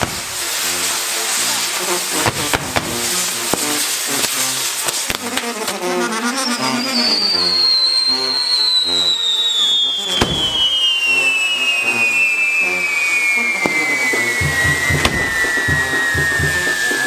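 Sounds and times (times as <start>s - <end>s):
firework crack: 0.0s - 17.0s
hiss of burning pyrotechnics: 0.0s - 17.0s
firework whistle falling in pitch: 1.5s - 17.0s.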